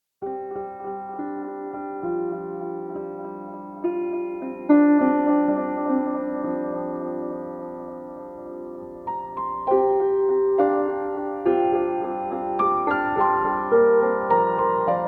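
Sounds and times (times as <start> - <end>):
slow soft piano music: 0.2 - 15.0.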